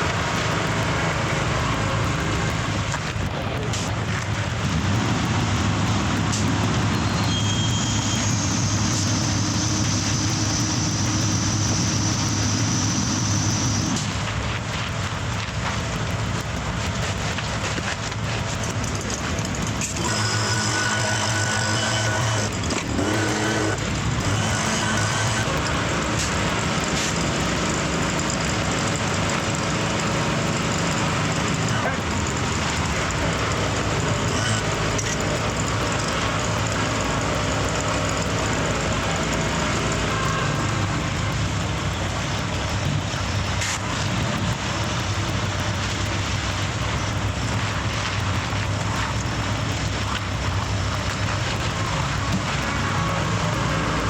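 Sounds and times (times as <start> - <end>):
thin high whine: 0.0 - 15.8, 16.4 - 54.0
engine droning: 0.0 - 54.0.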